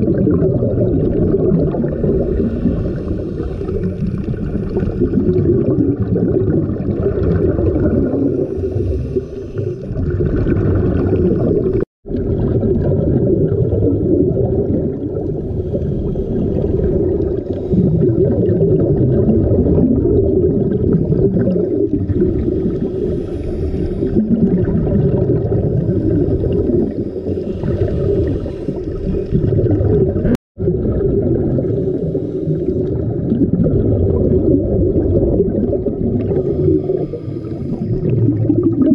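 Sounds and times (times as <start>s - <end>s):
underwater bubbling and gurgling: 0.0s - 38.9s.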